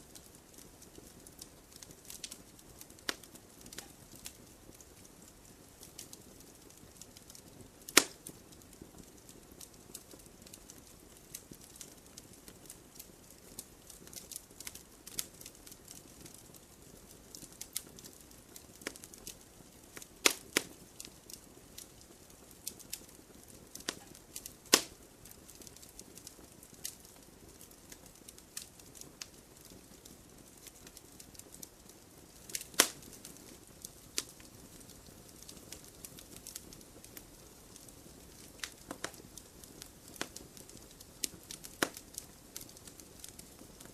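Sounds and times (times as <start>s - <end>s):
burning wood popping: 0.0s - 43.9s
campfire crackling: 0.0s - 43.9s.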